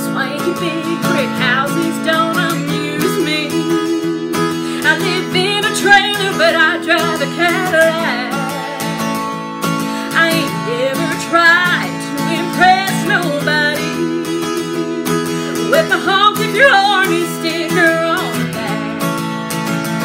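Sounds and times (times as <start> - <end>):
woman singing: 0.0 - 19.2
acoustic guitar strumming: 0.0 - 20.0.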